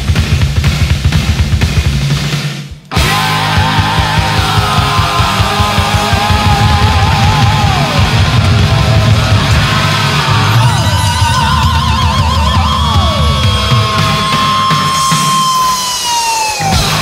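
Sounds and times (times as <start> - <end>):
distorted electric guitars: 0.0 - 17.0
fast dense drumming: 0.0 - 17.0.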